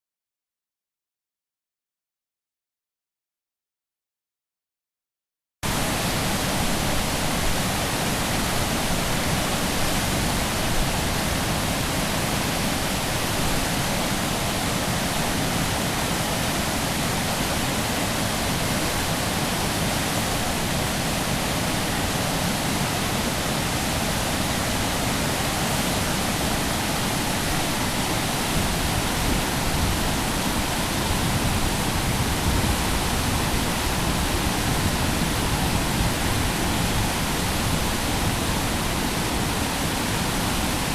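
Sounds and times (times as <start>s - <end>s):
river roaring: 5.7s - 40.9s.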